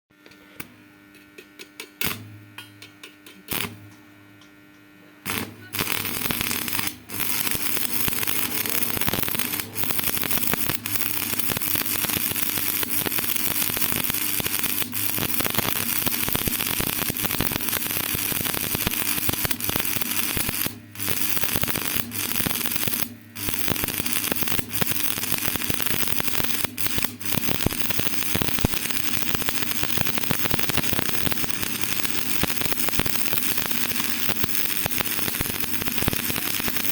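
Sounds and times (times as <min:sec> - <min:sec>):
crackling sizzling welding arc: 0:00.2 - 0:36.9
welder hum: 0:00.2 - 0:36.9
welding arc strikes: 0:00.6 - 0:36.9.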